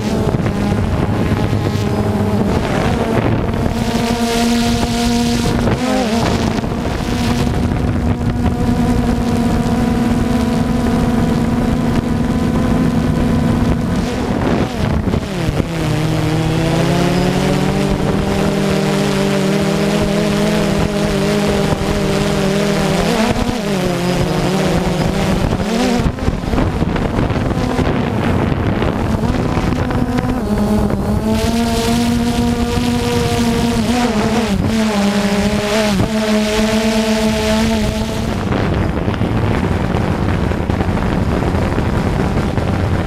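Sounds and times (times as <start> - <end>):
drone propellers buzzing: 0.0 - 43.0.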